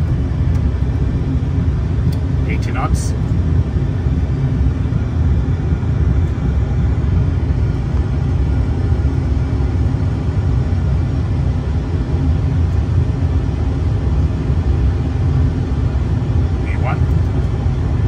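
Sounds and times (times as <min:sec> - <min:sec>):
jet engines rumbling on takeoff: 0:00.0 - 0:18.0.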